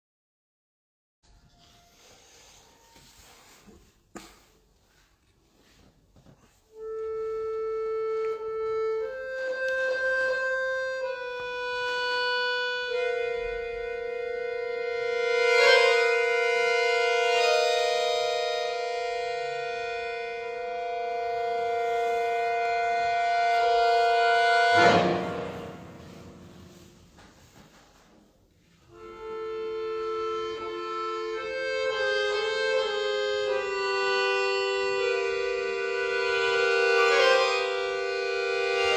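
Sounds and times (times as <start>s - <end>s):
accordion slow melody: 6.6s - 27.6s, 28.7s - 38.9s.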